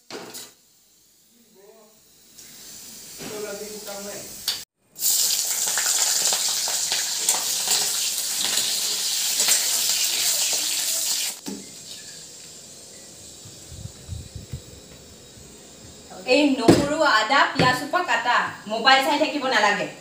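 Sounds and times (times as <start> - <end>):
onions sizzling in hot oil: 0.0 - 17.4.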